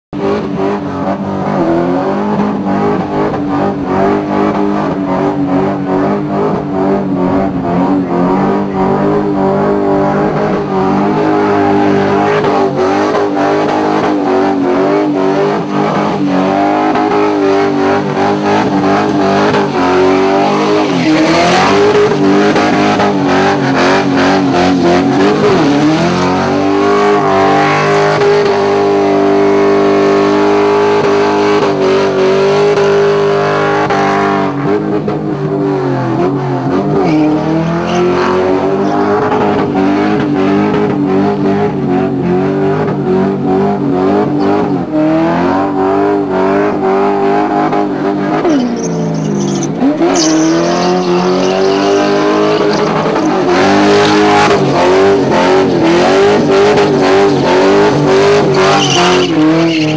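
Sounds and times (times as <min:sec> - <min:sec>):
car engine at high revs: 0:00.1 - 0:59.9.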